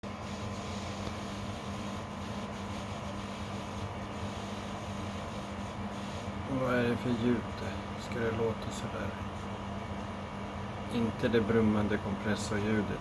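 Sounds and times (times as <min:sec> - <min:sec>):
air conditioner compressor hum: 0:00.0 - 0:13.0.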